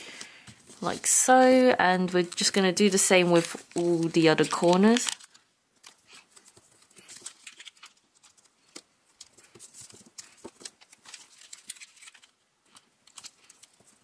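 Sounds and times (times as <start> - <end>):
paper rustling and crackling: 2.1 - 14.0.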